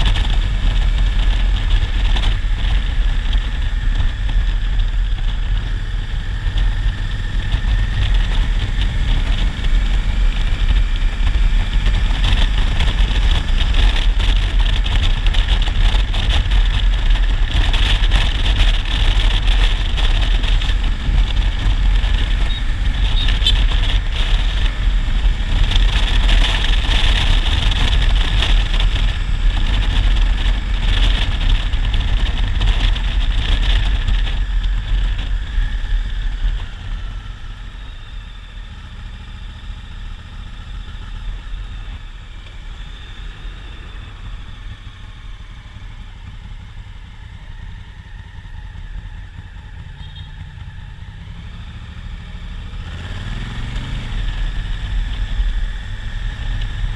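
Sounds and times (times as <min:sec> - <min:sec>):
motorcycle engine running: 0:00.0 - 0:56.9
road noise: 0:00.0 - 0:56.9.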